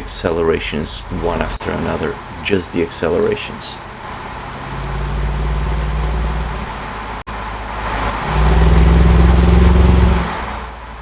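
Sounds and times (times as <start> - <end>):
car exhaust accelerating: 0.0 - 11.0.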